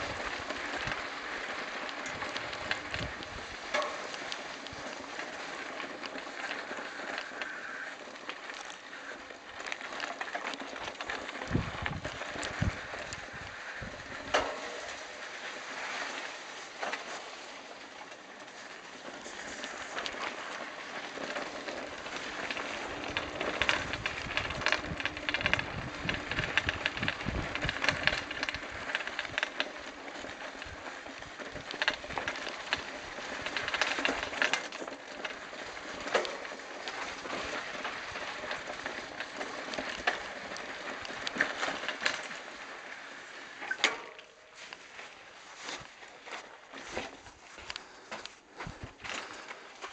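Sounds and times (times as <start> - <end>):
bike rattling over stones: 0.0 - 49.9
bike tyres crunching on gravel: 0.0 - 49.9.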